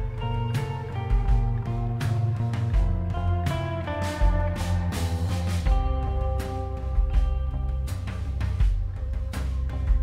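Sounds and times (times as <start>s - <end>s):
guitar music with bass line: 0.0s - 10.0s.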